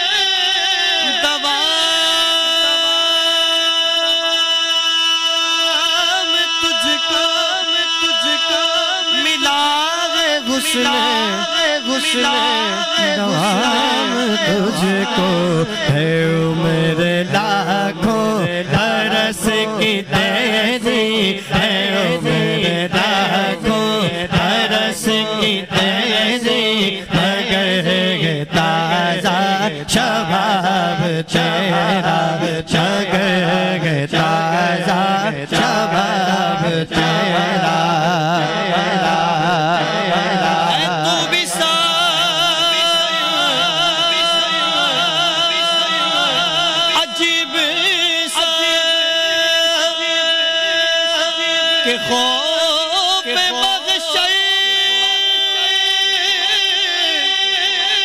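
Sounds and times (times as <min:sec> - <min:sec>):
man singing into a microphone: 0:00.0 - 0:58.0.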